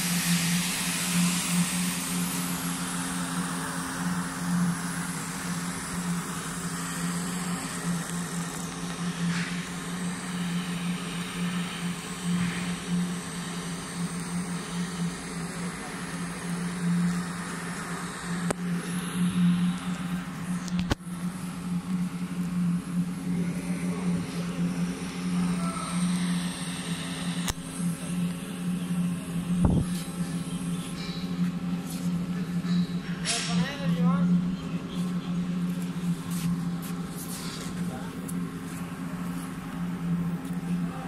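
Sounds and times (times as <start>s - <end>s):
welding hum with hiss: 0.0s - 41.0s.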